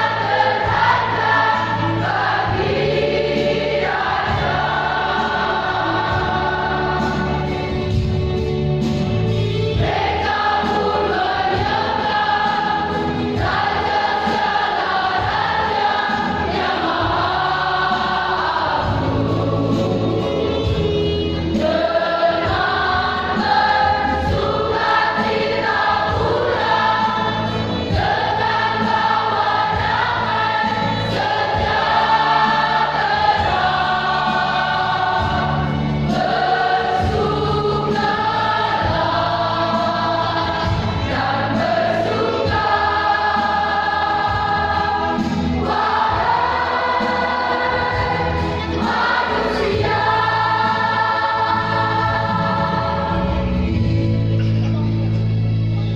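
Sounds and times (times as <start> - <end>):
choir singing a hymn: 0.0 - 55.7
accompaniment: 9.6 - 55.4.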